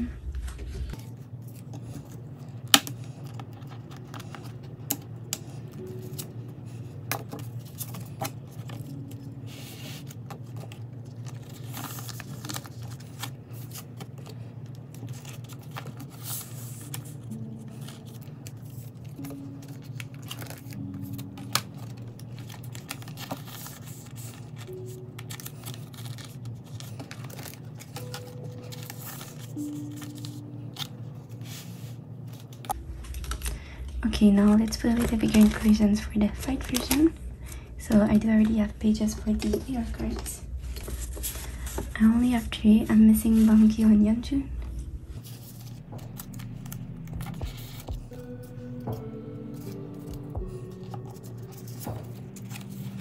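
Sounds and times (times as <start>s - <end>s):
plastic sleeves rustling and crinkling: 0.0s - 43.9s, 49.6s - 53.0s.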